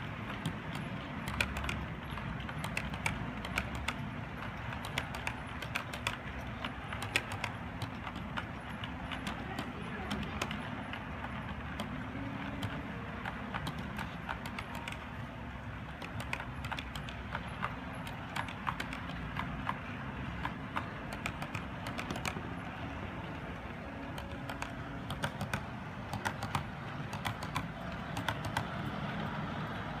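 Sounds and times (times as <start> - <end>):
wheels clicking over track joints: 0.0 - 30.0.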